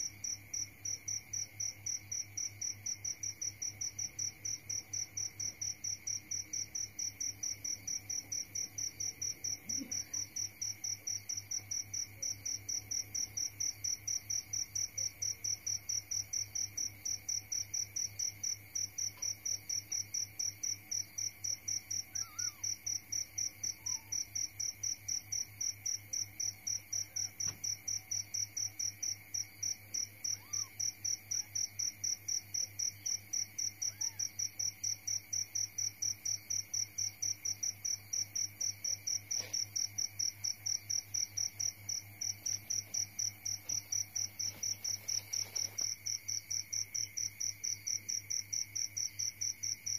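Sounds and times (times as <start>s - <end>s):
insect chirping: 0.0s - 49.9s.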